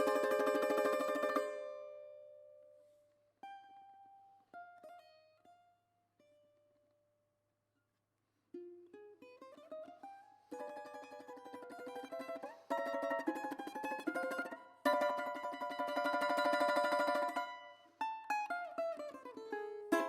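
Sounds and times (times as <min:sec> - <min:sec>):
plucked string instrument: 0:00.0 - 0:06.8, 0:08.5 - 0:20.0.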